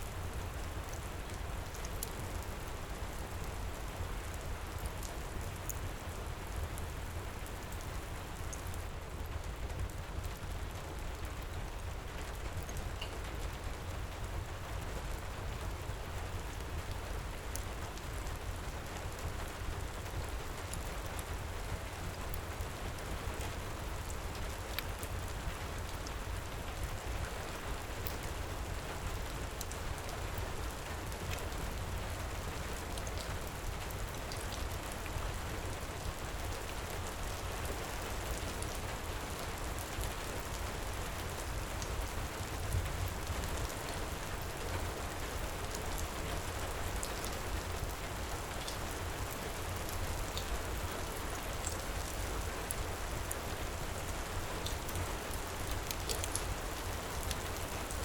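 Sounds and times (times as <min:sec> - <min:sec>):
faint wood fire crackles: 0:00.0 - 0:58.0
heavy rain pouring: 0:00.1 - 0:58.0.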